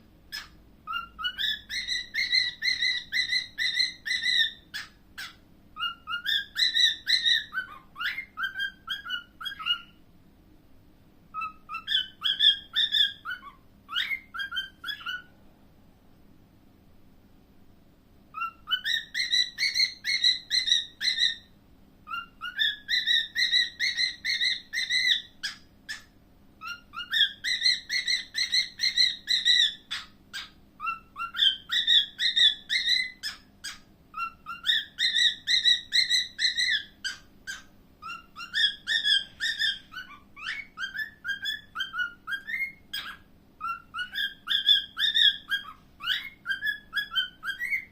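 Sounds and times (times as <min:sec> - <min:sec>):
cockatiel chirping and whistling: 0:00.3 - 0:10.0, 0:11.3 - 0:15.4, 0:18.3 - 0:47.9.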